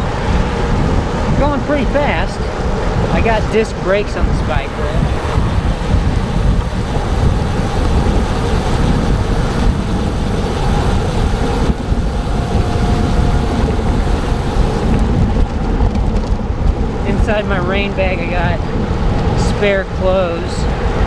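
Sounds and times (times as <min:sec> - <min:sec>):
bicycle tyres on wet road: 0:00.0 - 0:21.0
wind buffeting microphone: 0:00.0 - 0:21.0.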